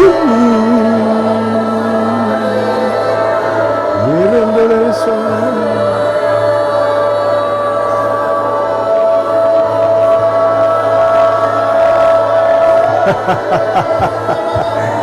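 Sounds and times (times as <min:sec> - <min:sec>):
person singing: 0:00.0 - 0:15.0
slow worship music: 0:00.0 - 0:15.0.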